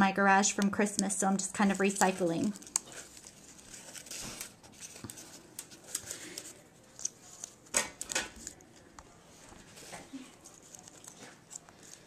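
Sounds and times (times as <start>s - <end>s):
paper rustling: 1.6s - 12.0s.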